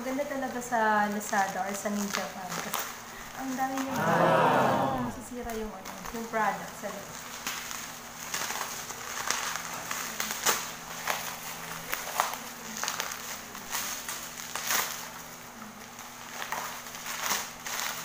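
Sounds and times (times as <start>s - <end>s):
bubble wrap crinkling: 0.1s - 3.9s, 6.1s - 18.0s.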